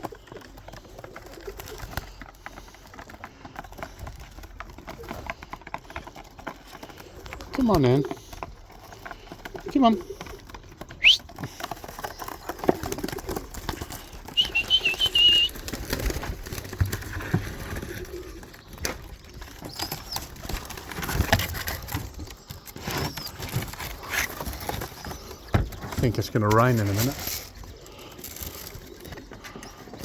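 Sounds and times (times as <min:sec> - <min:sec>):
pigeon wings flapping: 0:00.0 - 0:30.0.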